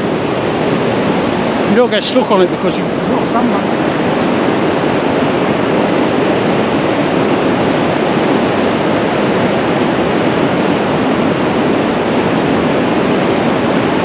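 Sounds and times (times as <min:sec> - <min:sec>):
surf breaking on shore: 0:00.0 - 0:14.0.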